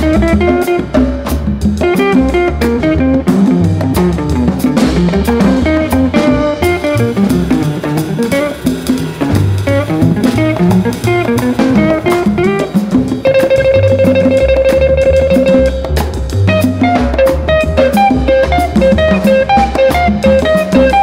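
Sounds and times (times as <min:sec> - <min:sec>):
guitar bass and drum music: 0:00.0 - 0:21.0.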